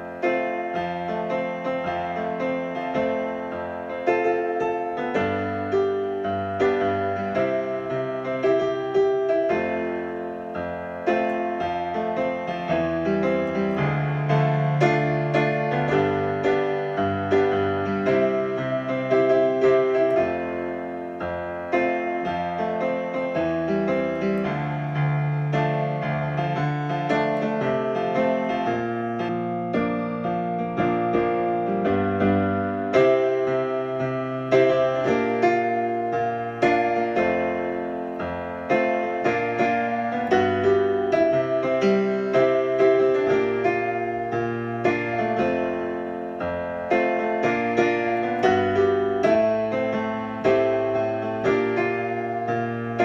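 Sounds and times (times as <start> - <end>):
solo piano playing: 0.0 - 53.0.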